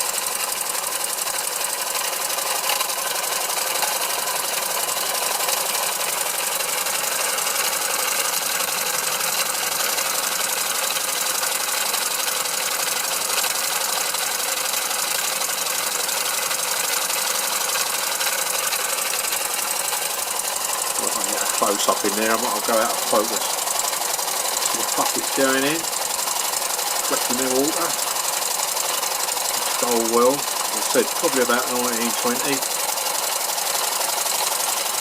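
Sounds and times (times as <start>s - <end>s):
model engine clattering: 0.0s - 35.0s.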